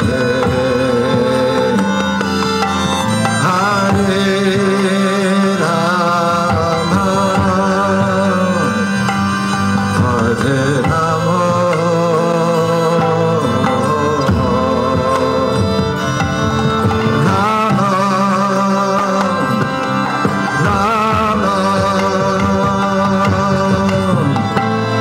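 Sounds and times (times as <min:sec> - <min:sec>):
hand drum strokes: 0:00.0 - 0:25.0
held drone: 0:00.0 - 0:25.0
person singing: 0:00.0 - 0:25.0
wavering melody: 0:00.0 - 0:25.0.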